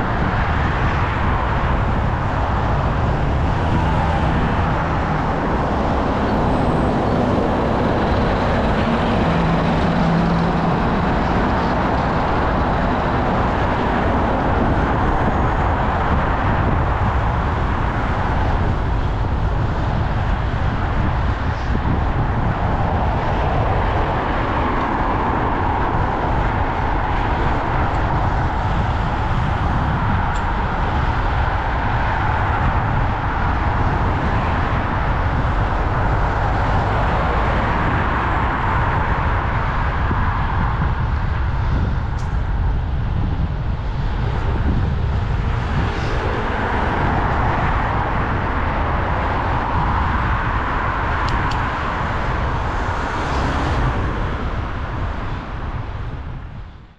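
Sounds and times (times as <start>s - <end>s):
road and traffic noise: 0.0s - 56.9s
wind rumble on microphone: 0.0s - 56.9s.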